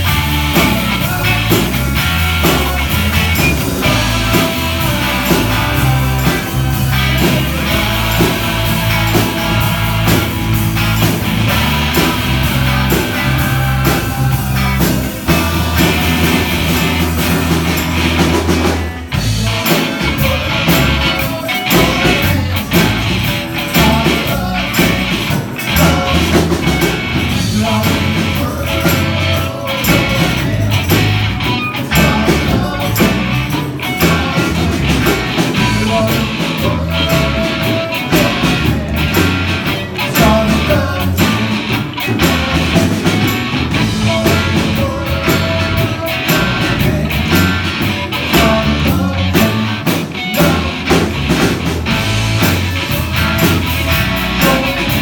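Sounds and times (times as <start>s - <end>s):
live band playing: 0.0s - 55.0s
person singing: 0.0s - 55.0s.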